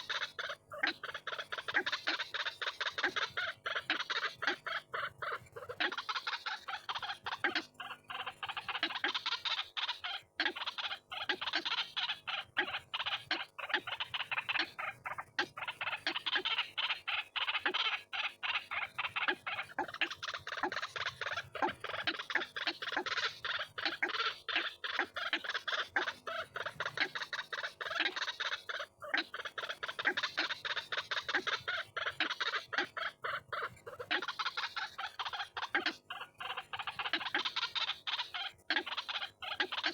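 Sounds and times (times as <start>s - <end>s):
bird harsh repeated calls: 0.0s - 39.9s.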